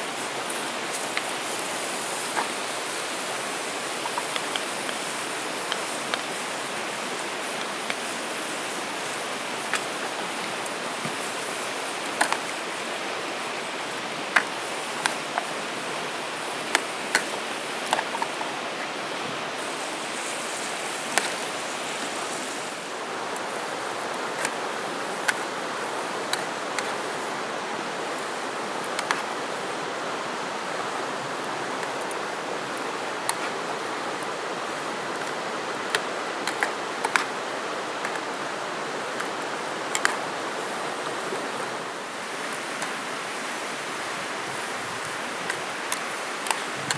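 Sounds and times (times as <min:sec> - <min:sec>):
campfire crackling: 0:00.0 - 0:46.9
rushing hiss: 0:00.0 - 0:46.9.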